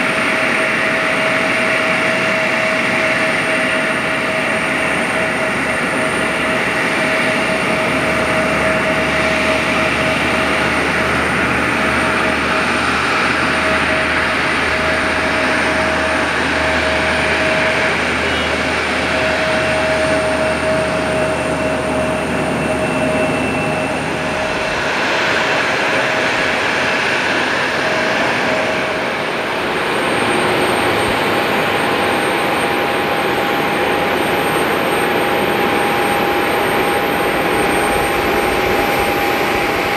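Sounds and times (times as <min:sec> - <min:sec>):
higher jet engine whine: 0:00.0 - 0:39.9
jet engine whine: 0:00.0 - 0:39.9.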